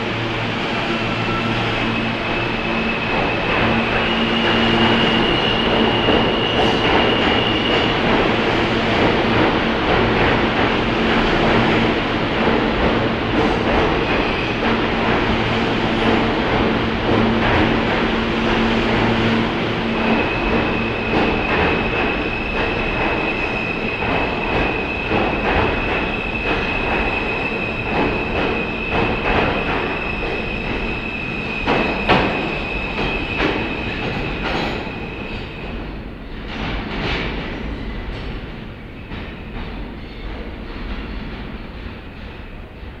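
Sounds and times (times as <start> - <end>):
subway train rumbling past: 0.0 - 43.0.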